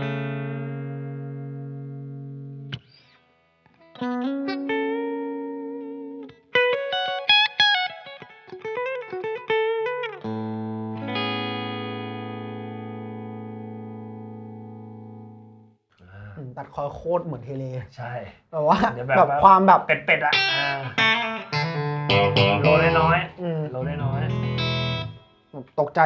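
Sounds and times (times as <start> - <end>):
clean electric guitar chords and notes: 0.0 - 15.6, 20.0 - 25.4.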